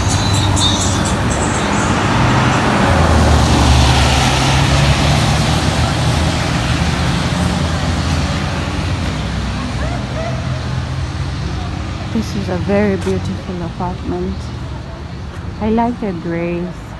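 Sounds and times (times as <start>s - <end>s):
background traffic: 0.0s - 16.9s
vehicle passing: 0.0s - 16.9s.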